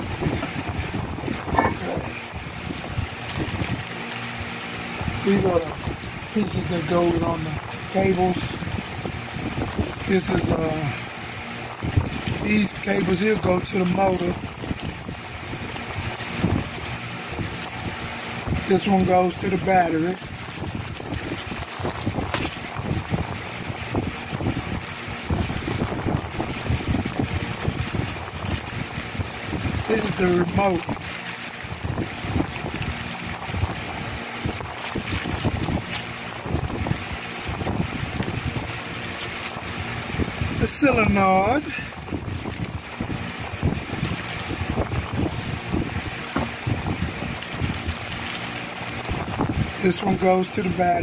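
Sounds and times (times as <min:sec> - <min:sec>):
low steady rumble: 0:00.0 - 0:51.0
plastic bags crinkling: 0:00.0 - 0:51.0.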